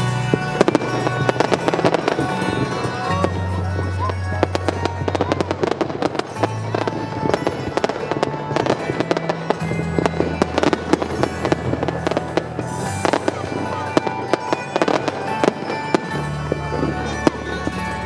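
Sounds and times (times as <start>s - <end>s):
fireworks bangs and crackles: 0.0s - 18.0s
music with low bass line: 0.0s - 18.0s.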